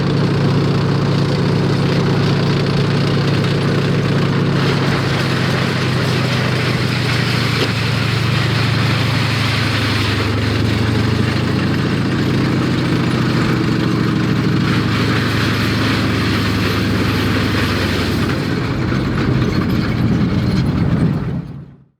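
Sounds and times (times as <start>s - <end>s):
heavy vehicle engine drone: 0.0s - 21.9s.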